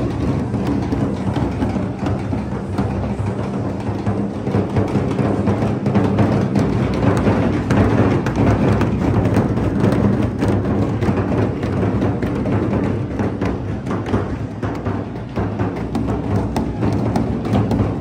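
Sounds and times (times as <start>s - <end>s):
dhol drums beaten with sticks: 0.0s - 18.0s.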